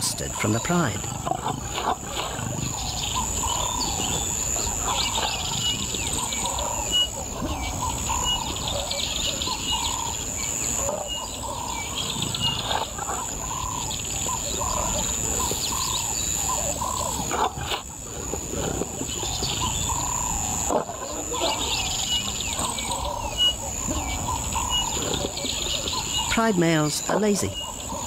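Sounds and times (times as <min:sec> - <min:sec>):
birds chirping: 0:00.0 - 0:28.0
high insect drone: 0:00.0 - 0:28.0.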